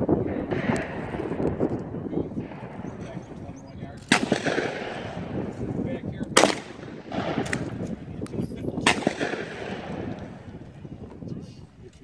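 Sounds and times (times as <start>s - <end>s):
shotgun shots echoing: 0.1s - 10.8s.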